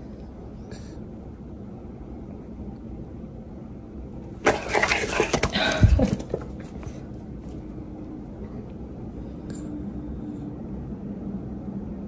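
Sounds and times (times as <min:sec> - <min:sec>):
low background rumble: 0:00.0 - 0:04.4, 0:05.5 - 0:12.0
faint hum: 0:00.0 - 0:12.0.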